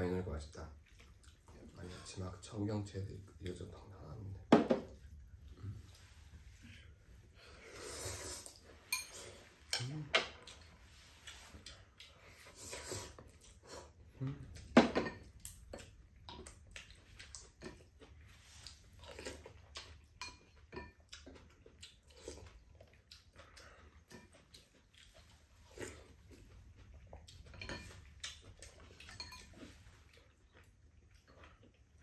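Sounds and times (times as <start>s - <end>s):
chewing: 0.7s - 2.5s, 5.0s - 14.7s, 15.3s - 32.0s.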